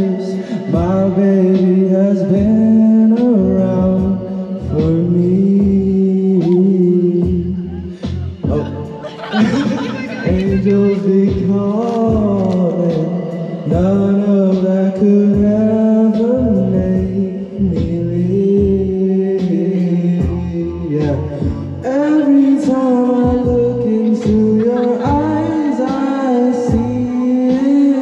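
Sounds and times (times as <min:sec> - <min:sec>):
backing track with bass beat: 0:00.0 - 0:28.0
man singing karaoke: 0:00.0 - 0:28.0.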